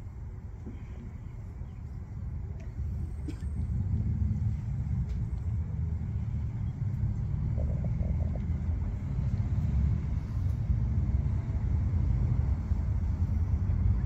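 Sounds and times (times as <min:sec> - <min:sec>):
outdoor low rumble: 0:00.0 - 0:14.0.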